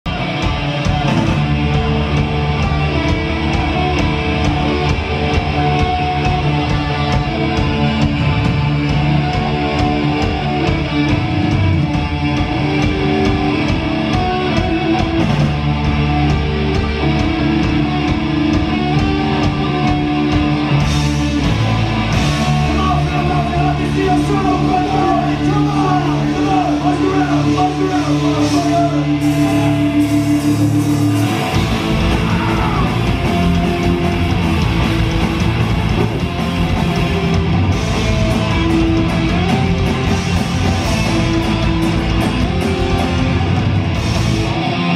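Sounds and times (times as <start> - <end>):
punk rock band playing: 0.0 - 44.9.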